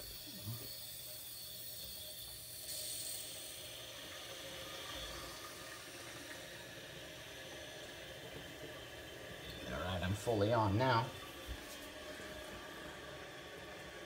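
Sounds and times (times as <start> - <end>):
toilet tank filling with water: 0.0 - 14.0.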